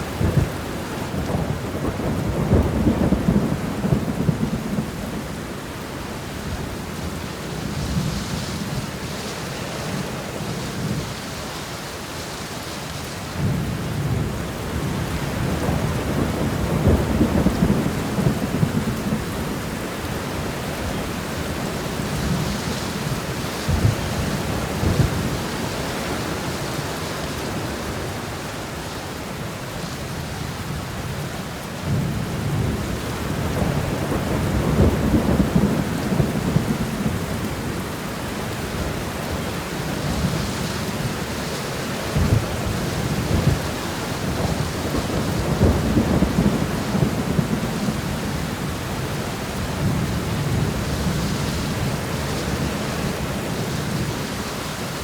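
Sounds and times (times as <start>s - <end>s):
steady rain shower: 0.0s - 55.0s.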